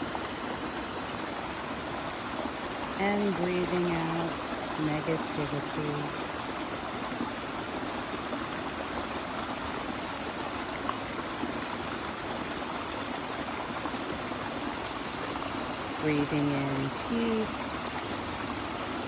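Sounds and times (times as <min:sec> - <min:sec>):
stream of water flowing: 0:00.0 - 0:19.0.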